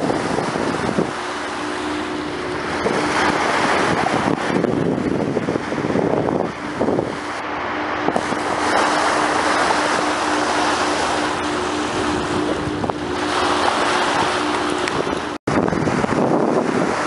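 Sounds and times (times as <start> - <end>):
sea water rushing along hull: 0.0 - 17.0
steady hum: 0.0 - 17.0
wind buffeting microphone: 0.0 - 17.0.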